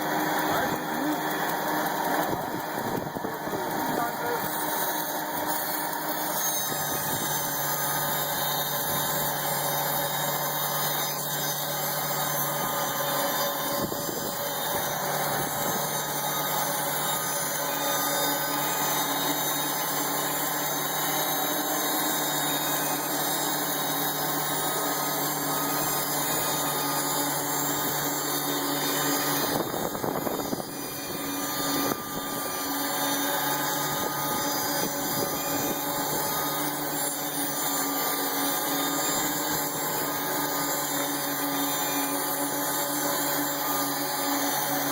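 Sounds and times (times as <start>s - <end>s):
sawmill machinery humming: 0.0s - 44.9s.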